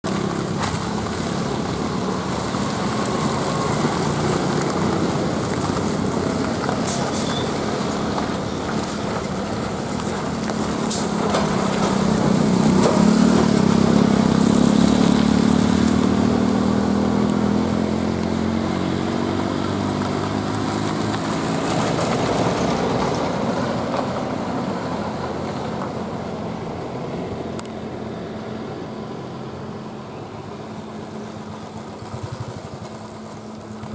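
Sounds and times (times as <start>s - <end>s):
bus engine running: 0.0s - 33.9s.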